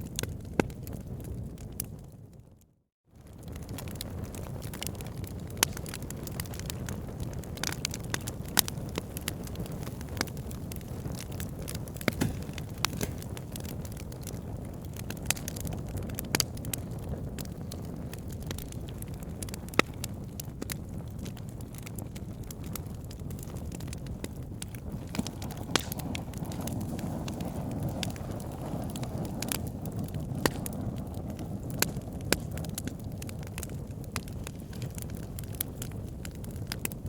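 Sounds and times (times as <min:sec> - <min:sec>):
logs crackling and popping: 0:00.0 - 0:02.4, 0:03.2 - 0:37.0
wood fire burning: 0:00.0 - 0:37.0.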